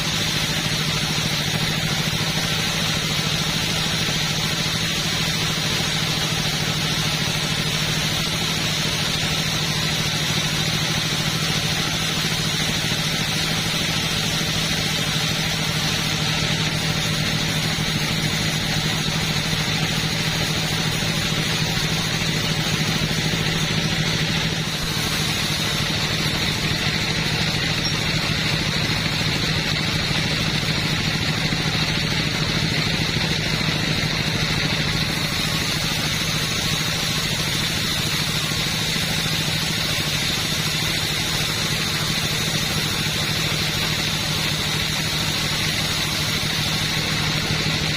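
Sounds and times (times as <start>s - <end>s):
chainsaw engine running: 0.0s - 47.9s.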